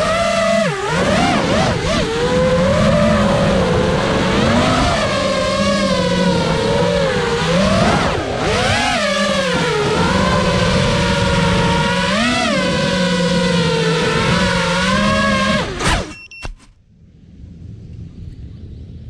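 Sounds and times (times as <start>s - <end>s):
drone motors whining: 0.0s - 18.6s.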